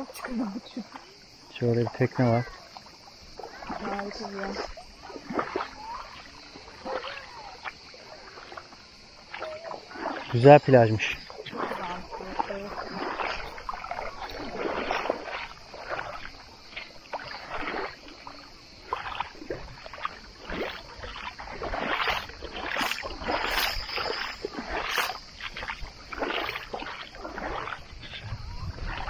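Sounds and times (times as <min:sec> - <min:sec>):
footsteps on wet gravel: 0:03.4 - 0:29.0.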